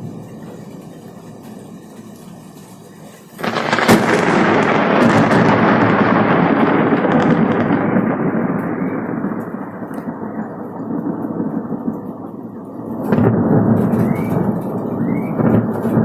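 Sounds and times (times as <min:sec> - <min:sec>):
thunder crack and rumble: 0:00.0 - 0:16.0.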